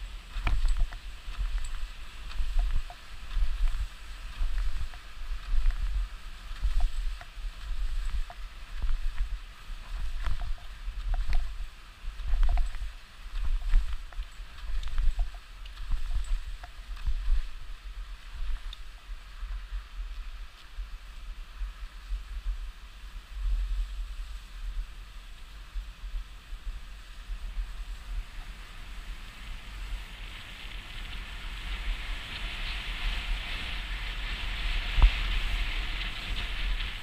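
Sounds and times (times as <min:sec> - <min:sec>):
skis scraping over slushy snow: 0:00.0 - 0:21.0, 0:21.6 - 0:37.0
wind buffeting microphone: 0:00.0 - 0:37.0.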